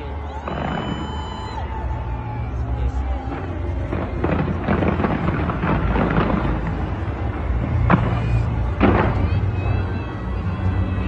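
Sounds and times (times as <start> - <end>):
fireworks crackling bangs: 0.2 - 2.3, 2.9 - 10.9
low rumble: 0.3 - 11.0.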